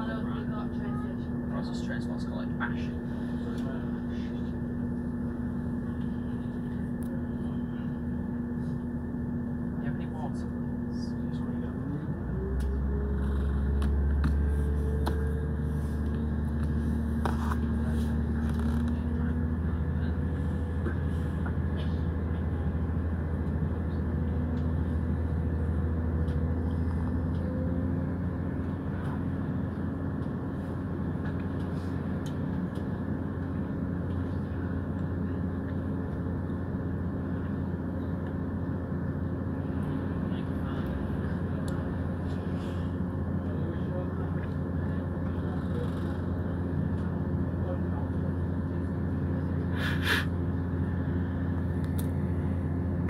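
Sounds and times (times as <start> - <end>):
deep train rumble: 0.0 - 53.0
diesel train engine accelerating: 0.0 - 53.0.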